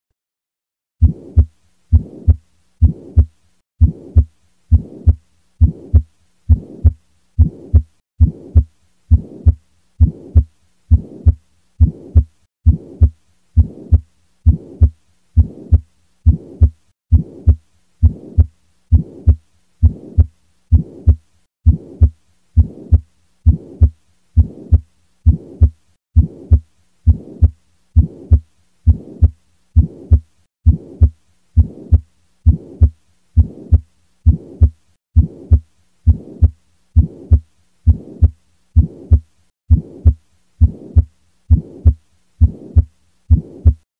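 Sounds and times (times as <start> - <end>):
heartbeat: 1.0 - 43.9.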